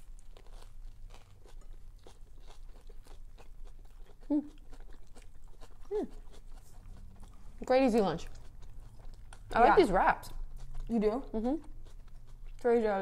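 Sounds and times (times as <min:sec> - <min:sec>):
chewing crunchy wraps: 0:00.0 - 0:13.0.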